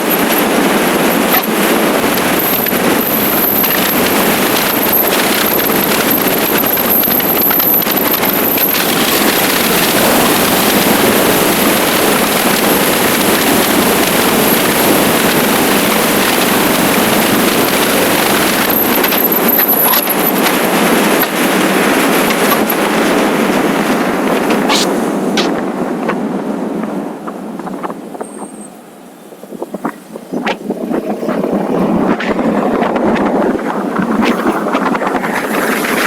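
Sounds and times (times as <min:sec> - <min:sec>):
wind and road noise rushing: 0:00.0 - 0:36.0.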